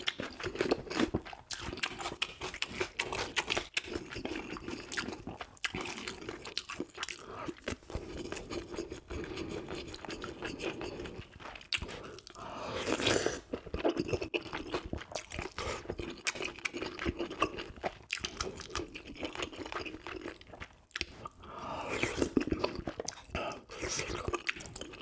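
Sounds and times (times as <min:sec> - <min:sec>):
man chewing crunchy food: 0:00.0 - 0:25.0.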